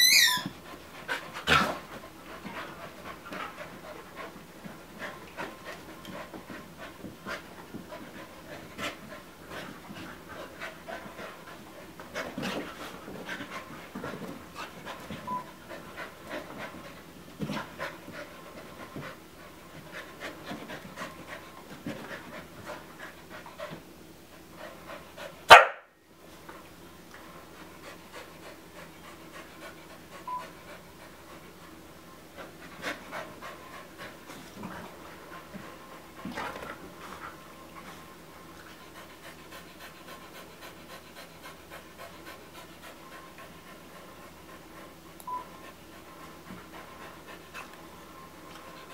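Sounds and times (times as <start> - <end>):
dogs panting: 0.6 - 25.5, 27.2 - 48.9.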